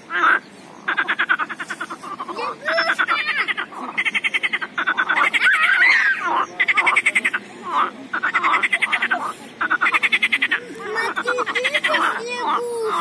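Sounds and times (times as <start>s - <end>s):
frogs croaking: 0.0s - 13.0s
frogs warbling calls: 0.0s - 13.0s.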